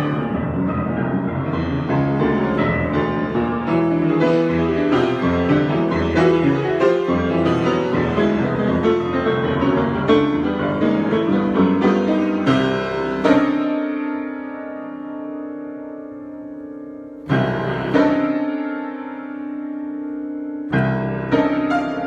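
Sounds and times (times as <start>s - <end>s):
piano improvisation: 0.0s - 22.0s.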